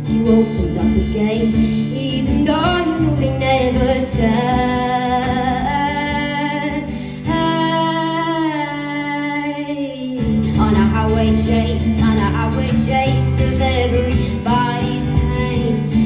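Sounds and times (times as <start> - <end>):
guitar accompaniment: 0.0 - 16.0.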